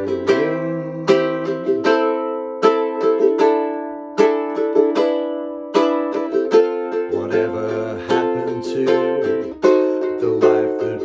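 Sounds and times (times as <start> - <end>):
ukulele strumming chords: 0.0 - 11.0.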